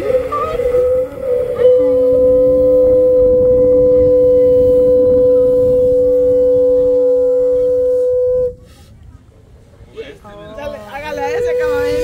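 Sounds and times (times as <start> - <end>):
shofars blowing: 0.0 - 8.8, 11.1 - 12.0.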